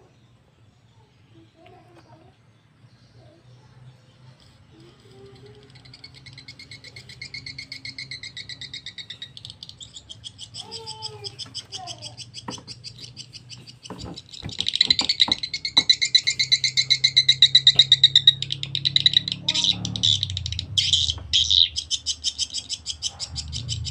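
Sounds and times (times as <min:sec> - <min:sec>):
high twittering bird chirps: 0:02.6 - 0:23.9.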